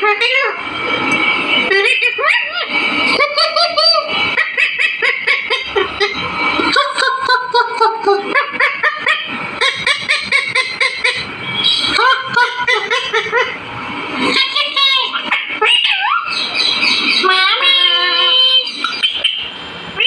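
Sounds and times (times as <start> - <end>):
parakeet chattering: 0.0 - 0.6, 1.6 - 20.0.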